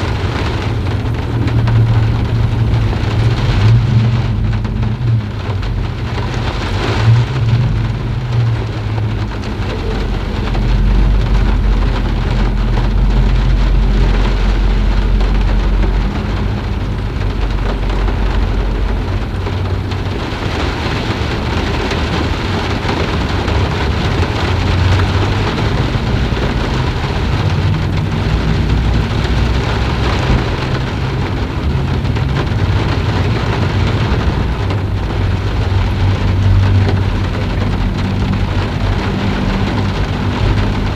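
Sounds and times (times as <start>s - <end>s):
long low rumble: 0.0s - 40.9s
steady rain falling: 0.0s - 40.9s.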